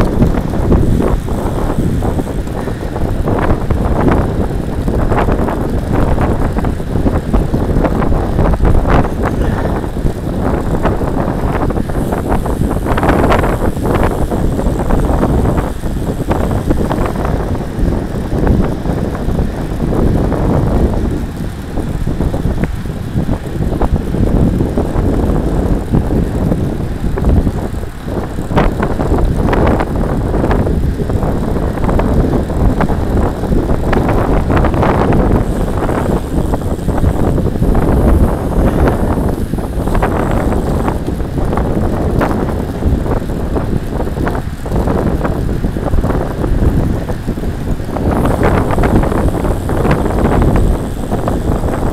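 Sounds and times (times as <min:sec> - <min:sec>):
bike rattling over bumps: 0:00.0 - 0:51.9
road rumble: 0:00.0 - 0:51.9
wind buffeting microphone: 0:00.0 - 0:51.9.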